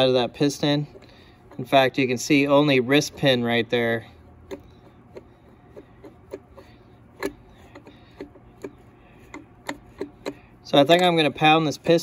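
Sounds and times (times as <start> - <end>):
metal tools tapping engine parts: 0.0 - 11.7.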